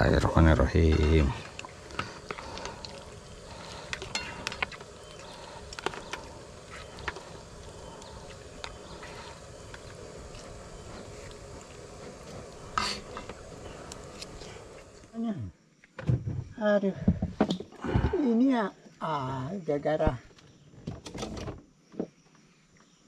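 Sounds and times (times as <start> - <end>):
background hiss: 0.0 - 23.0.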